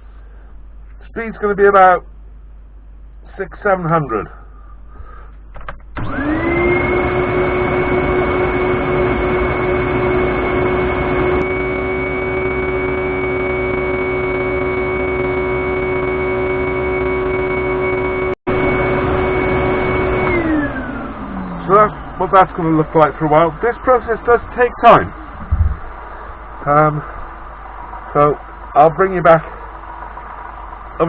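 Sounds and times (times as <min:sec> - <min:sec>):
lathe motor whine: 0:06.0 - 0:31.0.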